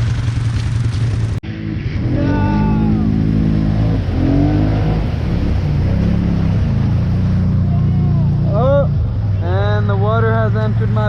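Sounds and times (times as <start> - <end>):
atv engine revving: 0.0 - 11.0.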